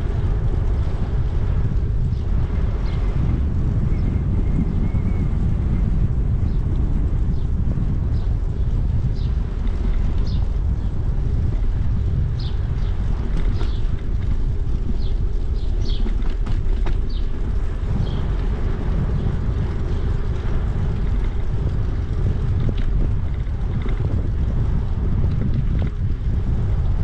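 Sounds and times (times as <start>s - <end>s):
wind buffeting the microphone: 0.0s - 27.0s.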